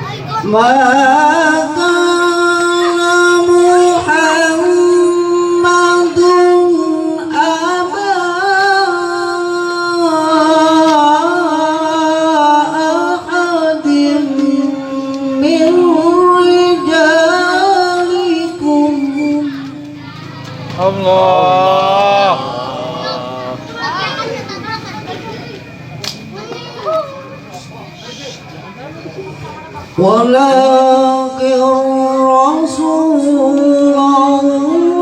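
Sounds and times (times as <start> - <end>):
person reciting melodically: 0.0 - 25.2, 29.8 - 35.0.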